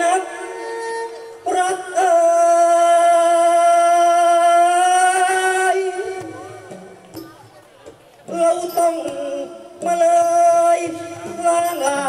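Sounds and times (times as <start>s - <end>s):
person singing into a microphone: 0.0s - 7.5s, 8.2s - 12.0s.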